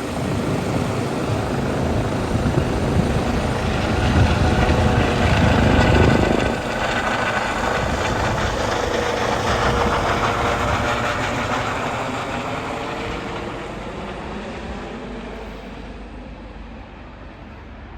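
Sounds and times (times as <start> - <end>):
helicopter flying away: 0.0 - 17.9.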